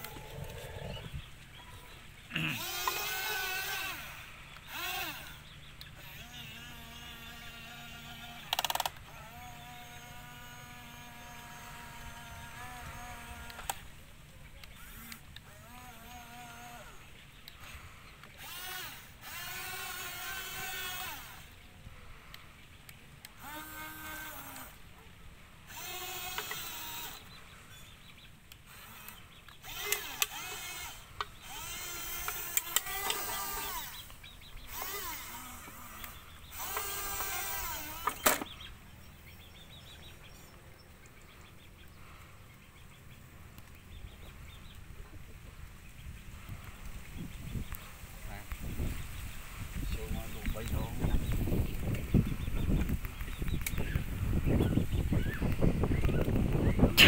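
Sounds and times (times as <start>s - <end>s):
small electric motors whining: 0.0s - 44.9s, 46.3s - 57.0s.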